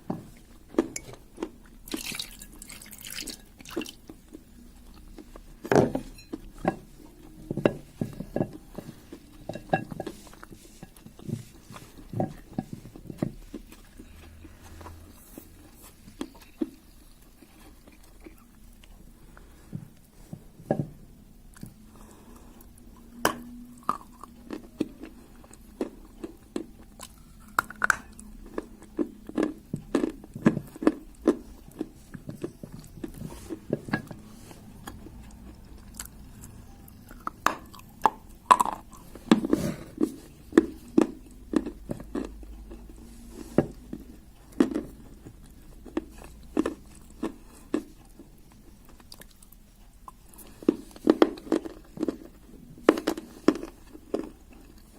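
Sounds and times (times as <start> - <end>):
person chewing crunchy clay: 0.0 - 54.9.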